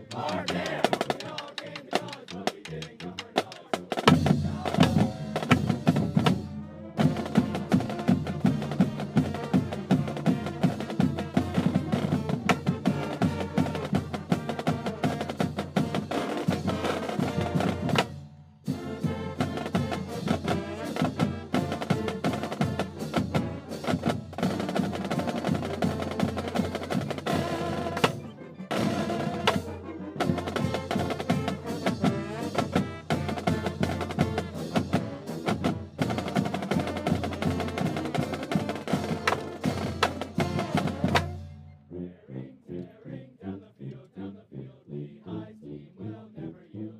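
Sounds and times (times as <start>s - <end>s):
steady drum beat: 0.0s - 18.1s, 18.7s - 41.5s
brass band playing: 0.0s - 43.6s.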